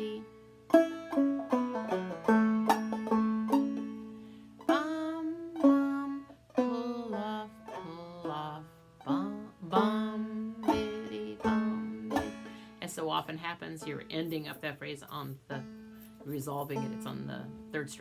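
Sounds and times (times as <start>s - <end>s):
banjo played slowly: 0.0s - 18.0s.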